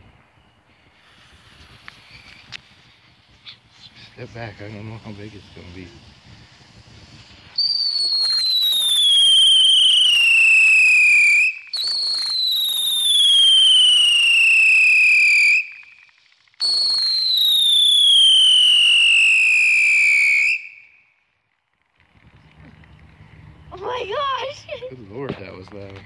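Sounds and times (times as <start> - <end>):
firework whistling: 0.0 - 21.4, 22.0 - 25.4.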